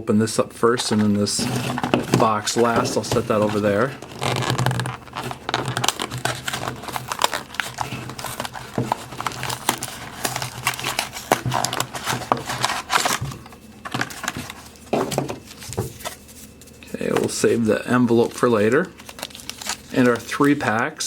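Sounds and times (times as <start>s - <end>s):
packaging crinkling and tearing: 0.8s - 16.3s, 18.3s - 20.7s.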